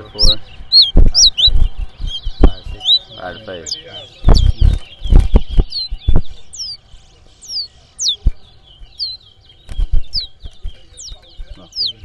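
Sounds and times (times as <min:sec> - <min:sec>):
songbirds whistling: 0:00.0 - 0:12.0.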